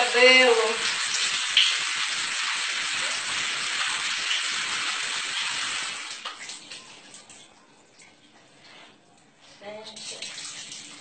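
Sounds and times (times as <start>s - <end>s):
shower water running: 0.0s - 11.0s.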